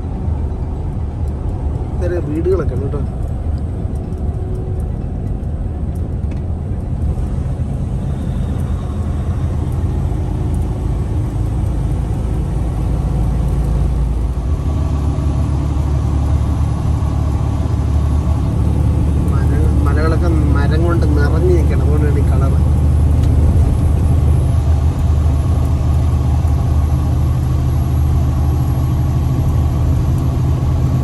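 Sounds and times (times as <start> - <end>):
road noise: 0.0 - 31.0
truck engine droning: 0.0 - 31.0.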